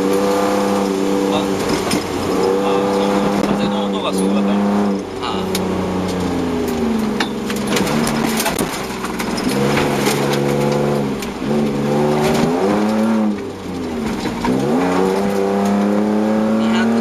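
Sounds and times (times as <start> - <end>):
car engine pulling hard: 0.0 - 17.0
knocks and rattles from road: 0.6 - 5.4, 6.0 - 16.1.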